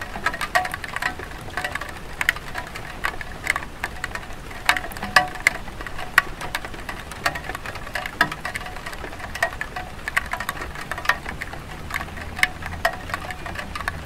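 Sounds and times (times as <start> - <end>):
rain drops tapping on tile roof: 0.0 - 14.0
soft steady rain hiss: 0.0 - 14.0.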